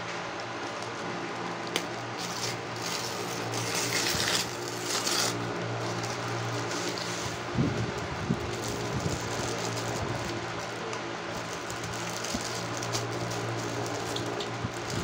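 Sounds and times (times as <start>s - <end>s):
steady low hum: 0.0s - 15.0s
paper and plastic crinkling: 0.4s - 15.0s.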